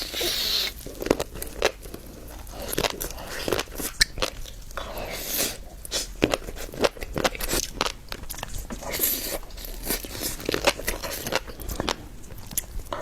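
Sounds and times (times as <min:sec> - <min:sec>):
wet chewing and crunching: 0:00.0 - 0:13.0.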